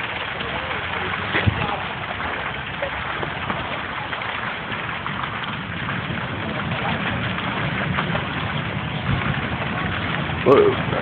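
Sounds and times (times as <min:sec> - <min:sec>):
fire roaring and crackling: 0:00.0 - 0:11.0
low rumble: 0:00.0 - 0:11.0.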